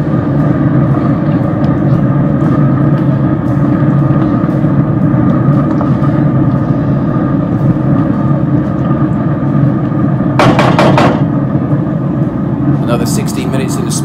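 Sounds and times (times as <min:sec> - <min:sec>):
grill fan humming: 0:00.0 - 0:14.0.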